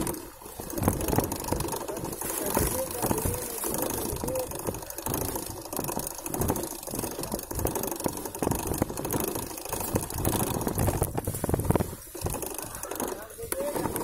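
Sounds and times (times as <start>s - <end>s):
bike rattling on dirt trail: 0.0s - 14.0s.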